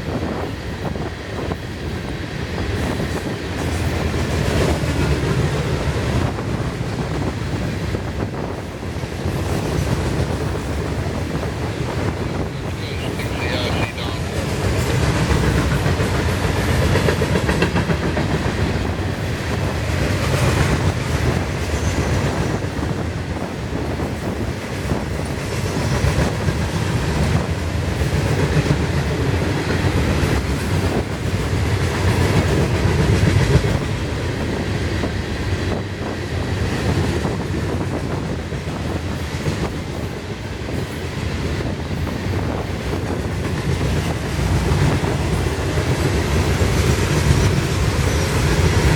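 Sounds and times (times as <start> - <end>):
train wheels clattering over rails: 0.0 - 48.9.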